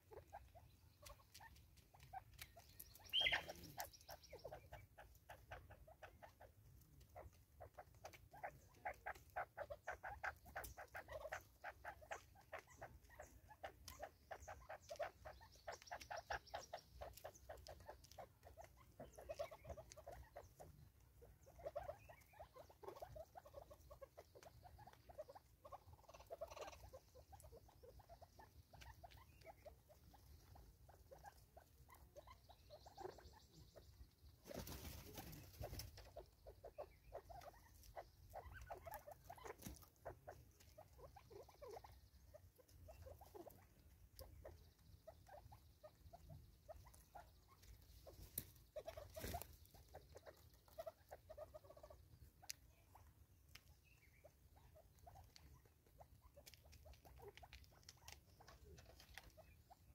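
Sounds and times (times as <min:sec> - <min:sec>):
bird beaks pecking seed: 0:00.0 - 0:59.9.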